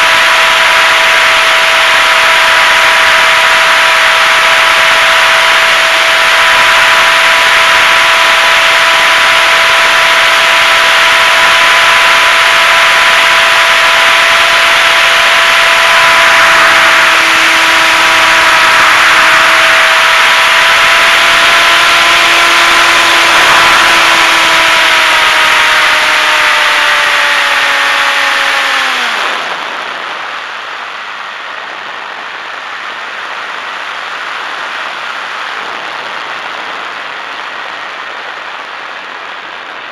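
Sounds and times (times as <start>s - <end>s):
electric motor propeller whine: 0.0s - 39.9s
wind rush: 0.0s - 39.9s.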